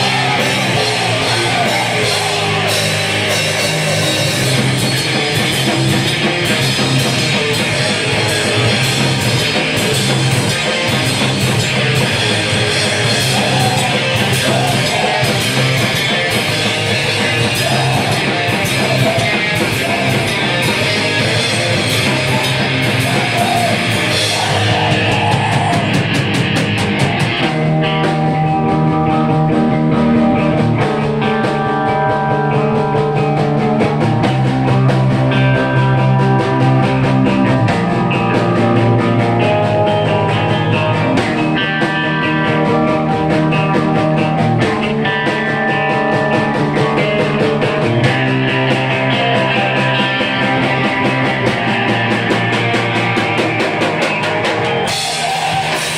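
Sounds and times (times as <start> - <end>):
pounding drums and cymbals: 0.0 - 28.4, 33.2 - 55.9
distorted electric guitars: 0.0 - 55.9.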